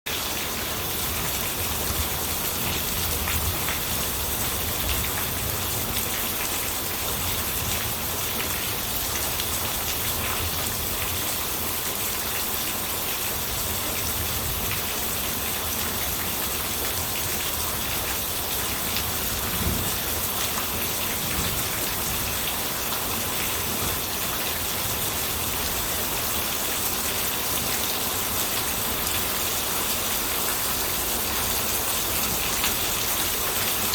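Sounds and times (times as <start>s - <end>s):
rain pattering: 0.1s - 33.9s.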